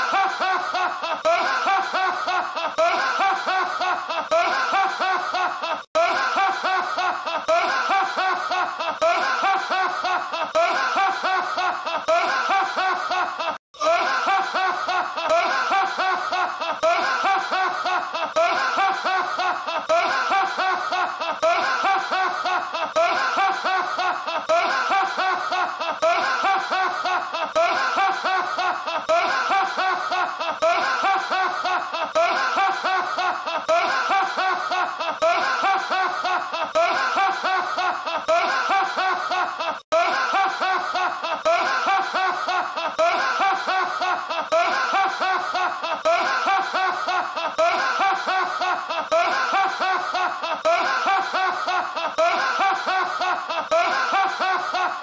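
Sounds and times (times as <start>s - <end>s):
man laughing high-pitched: 0.0s - 55.0s.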